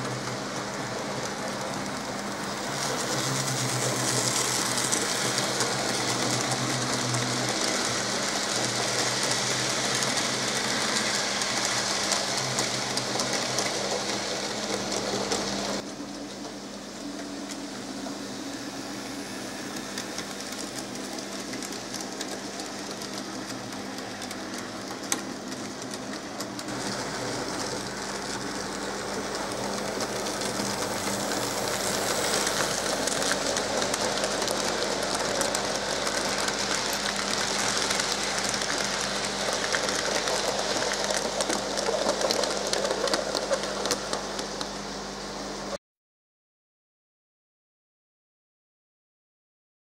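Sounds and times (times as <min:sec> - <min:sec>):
model train whirring on track: 0:00.0 - 0:45.8.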